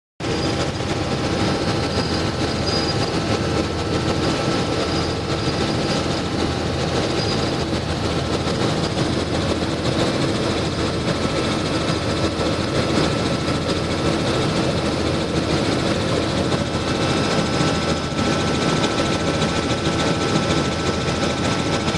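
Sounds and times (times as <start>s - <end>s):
helicopter running: 0.2s - 21.9s.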